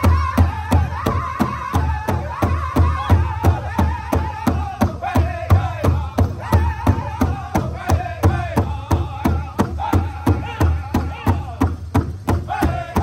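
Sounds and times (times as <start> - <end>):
group singing in high voices: 0.0 - 11.6, 12.4 - 13.0
large drum struck in unison: 0.0 - 13.0.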